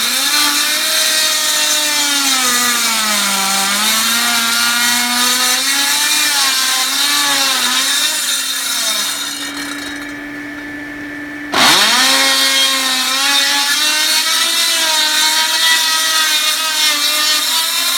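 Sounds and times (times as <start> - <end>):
power saw cutting roofing: 0.0 - 10.2, 11.5 - 17.9.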